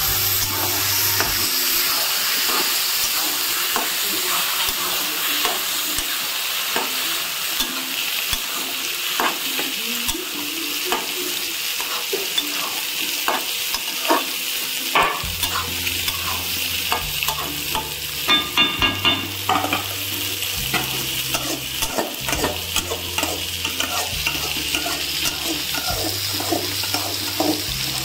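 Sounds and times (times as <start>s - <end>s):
greens sizzling in a pan: 0.0s - 28.0s
metal spatula scraping a pan: 0.0s - 28.0s.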